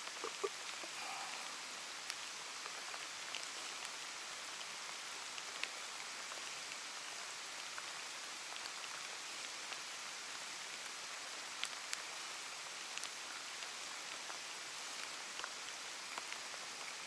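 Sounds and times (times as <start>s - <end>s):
light rain pattering on water: 0.0s - 17.0s.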